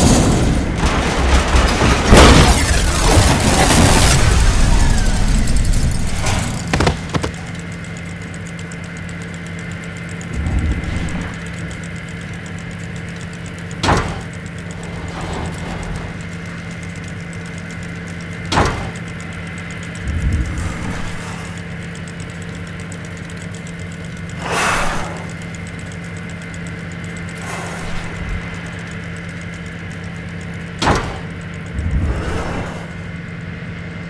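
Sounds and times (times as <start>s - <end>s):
engine idling: 0.0s - 34.0s
sharp clicks: 2.1s - 33.6s.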